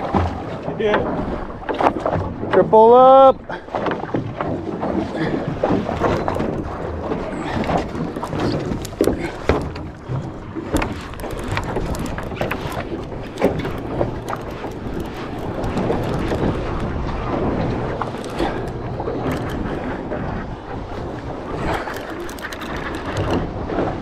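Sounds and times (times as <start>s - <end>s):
knocks and clicks from hull: 0.0s - 24.0s
water noise: 0.0s - 24.0s
wind: 0.0s - 24.0s.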